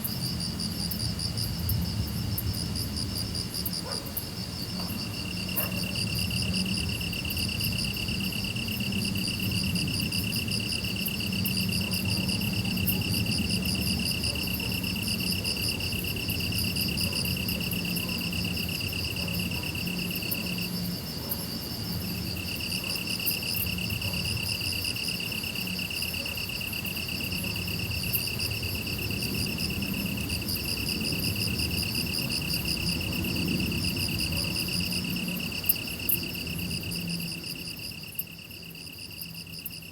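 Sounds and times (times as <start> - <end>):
pulsing insect chorus: 0.0 - 39.9.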